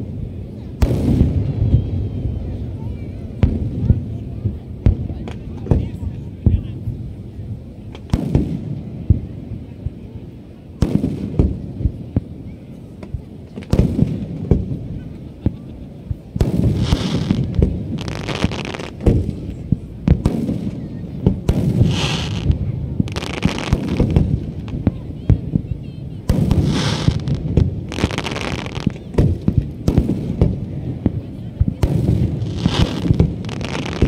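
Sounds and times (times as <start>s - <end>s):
fireworks bangs and booms: 0.0s - 34.0s
fireworks crackling: 0.0s - 34.0s.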